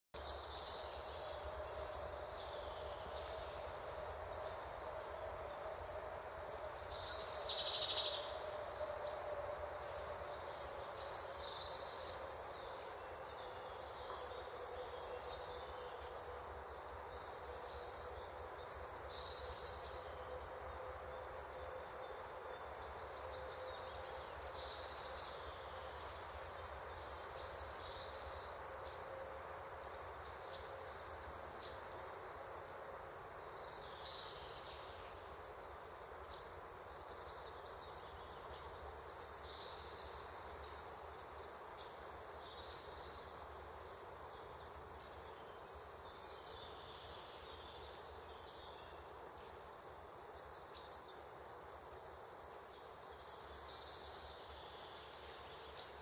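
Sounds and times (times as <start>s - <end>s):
steady background hiss: 0.2s - 56.0s.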